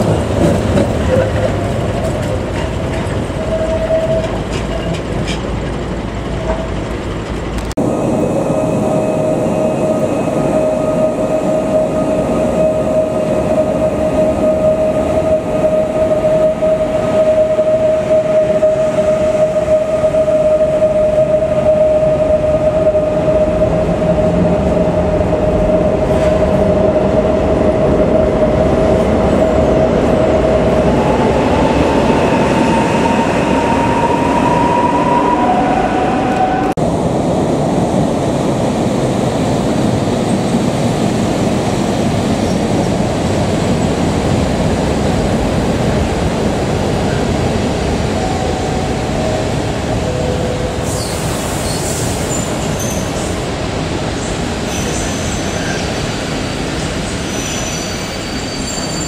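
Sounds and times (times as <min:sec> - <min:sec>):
electric train whine: 0:00.0 - 0:59.0
train wheels rumbling: 0:00.0 - 0:59.0.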